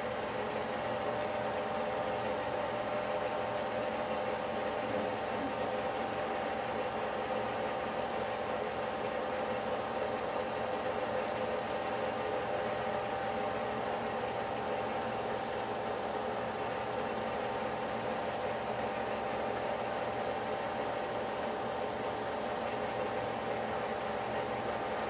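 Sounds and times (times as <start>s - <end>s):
film projector whirring: 0.0s - 25.0s.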